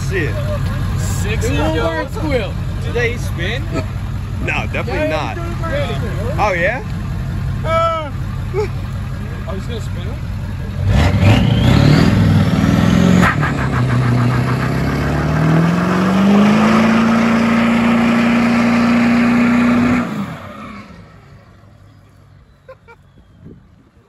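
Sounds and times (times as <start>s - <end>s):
diesel truck engine revving: 0.0s - 21.8s.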